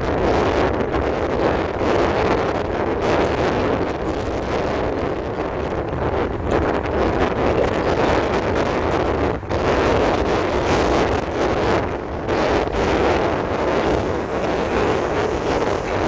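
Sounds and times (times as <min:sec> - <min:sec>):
wind buffeting microphone: 0:00.0 - 0:16.0
car road noise: 0:02.6 - 0:16.0.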